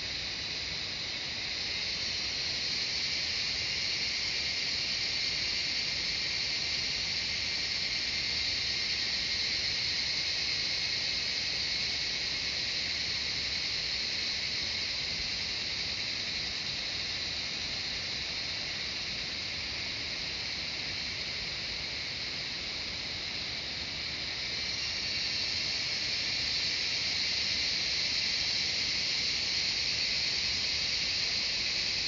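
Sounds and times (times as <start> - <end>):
cicadas singing: 0.0 - 32.0.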